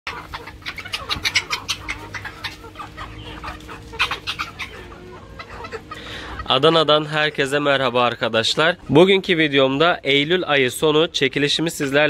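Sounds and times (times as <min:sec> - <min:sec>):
chickens clucking: 0:00.1 - 0:12.0
faint steady hum: 0:00.1 - 0:12.0.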